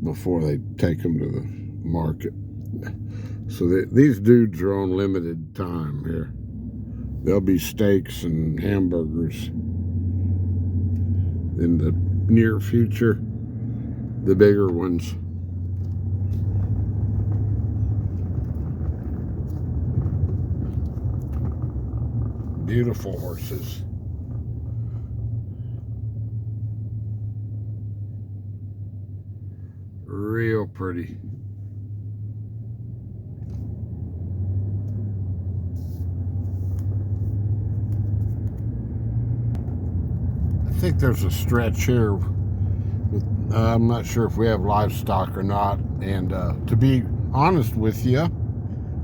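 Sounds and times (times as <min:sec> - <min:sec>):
vehicle engine and tyre rumble: 0:00.0 - 0:49.0.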